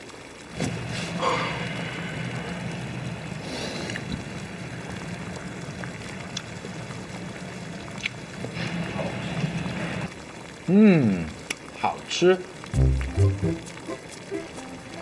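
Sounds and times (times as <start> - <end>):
hotpot broth boiling: 0.0 - 15.0.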